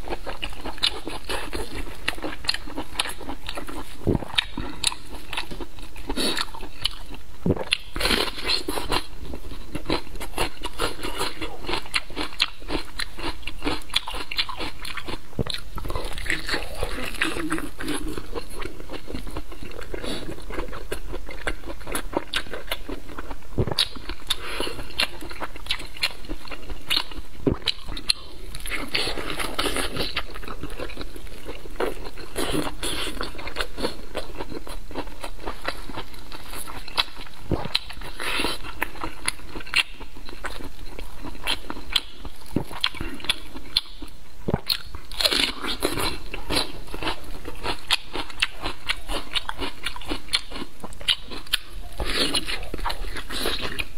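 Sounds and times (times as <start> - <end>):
chewing and biting: 0.0 - 53.9.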